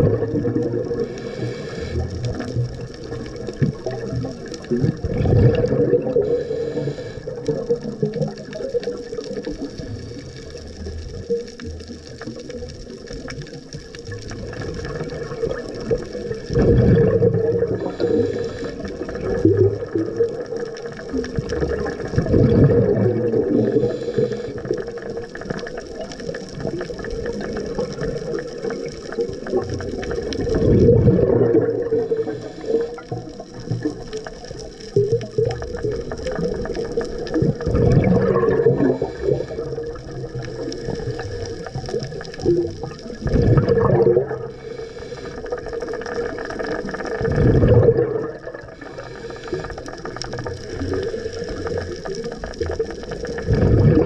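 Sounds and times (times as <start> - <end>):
underwater hiss: 0.0 - 13.2, 13.9 - 54.0
diver's bubbles gurgling: 0.0 - 54.0.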